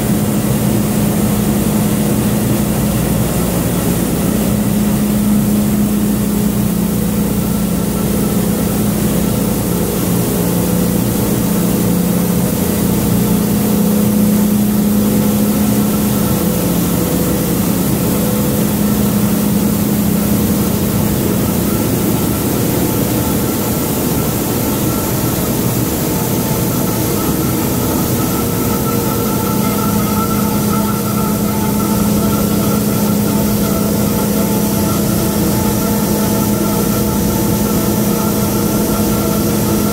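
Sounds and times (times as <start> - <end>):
printing press running: 2.4 - 39.9.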